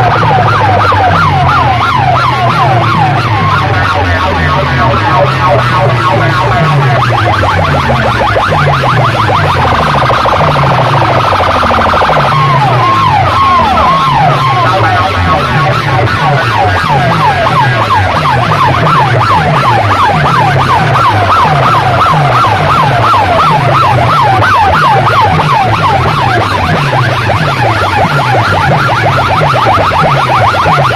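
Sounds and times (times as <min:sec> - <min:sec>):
electronic siren effect: 0:00.0 - 0:30.9
heavy bass beat: 0:00.0 - 0:30.9.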